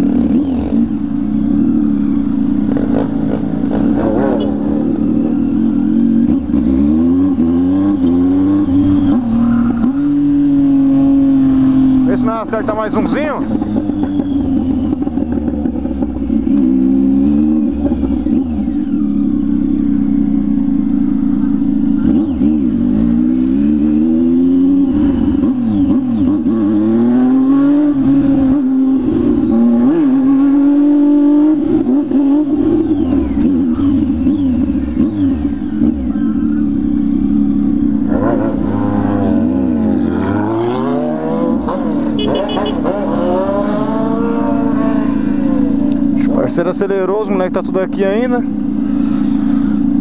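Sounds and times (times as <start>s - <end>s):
motorcycle engines revving: 0.0s - 50.0s.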